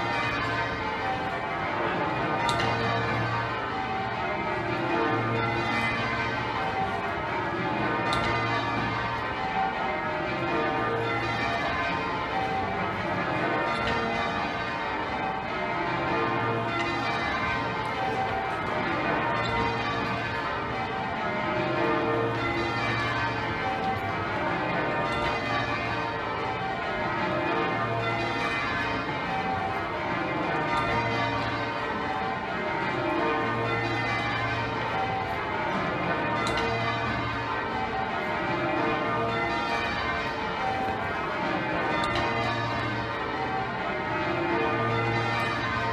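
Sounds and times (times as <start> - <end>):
church bells ringing in changes: 0.0 - 45.9.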